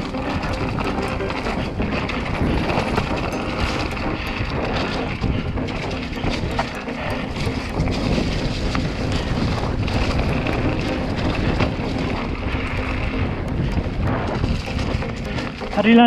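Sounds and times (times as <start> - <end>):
bike knocks and rattles: 0.0 - 16.0
wind buffeting microphone: 0.0 - 16.0.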